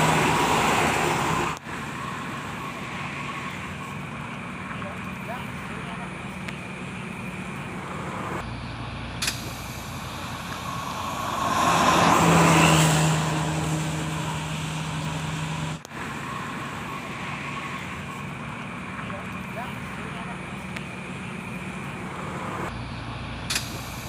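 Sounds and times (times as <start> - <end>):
bus passing: 0.0 - 24.0
traffic noise: 0.0 - 24.0.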